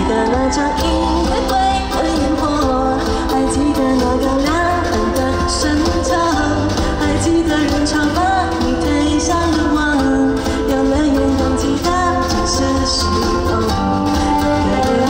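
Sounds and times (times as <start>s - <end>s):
live pop song with band: 0.0s - 15.0s.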